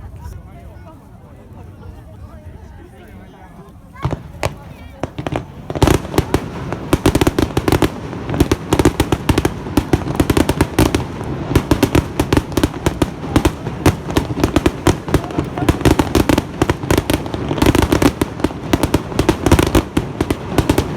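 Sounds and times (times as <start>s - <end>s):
fireworks bangs and crackles: 4.0s - 20.9s.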